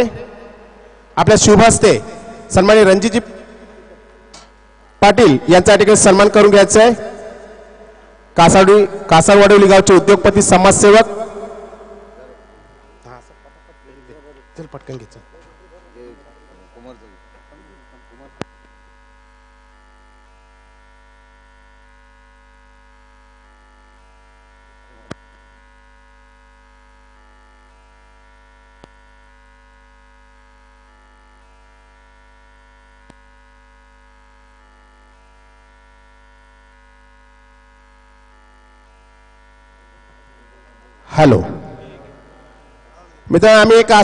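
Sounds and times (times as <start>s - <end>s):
electrical mains hum: 0.0s - 44.0s.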